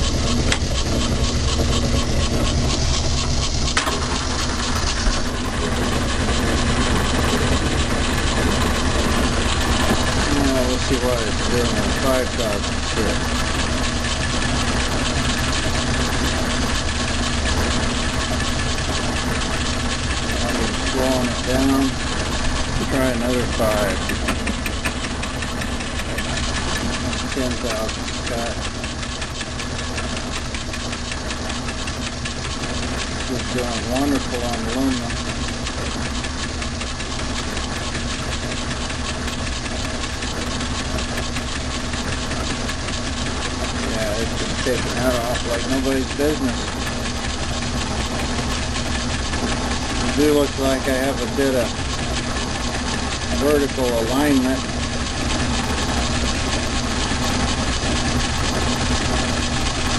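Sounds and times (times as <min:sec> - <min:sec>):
metal lathe running: 0:00.0 - 0:59.9.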